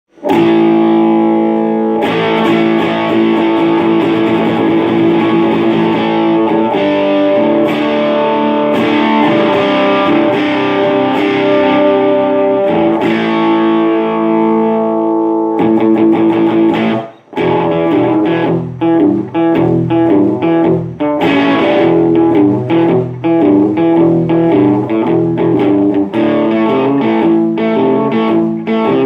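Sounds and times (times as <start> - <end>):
distorted electric guitar: 0.1 - 29.0.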